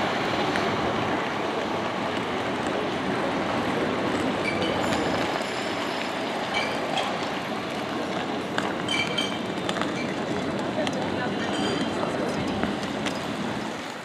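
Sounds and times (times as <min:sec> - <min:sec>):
pedestrian noise: 0:00.0 - 0:14.0
traffic: 0:00.0 - 0:14.0.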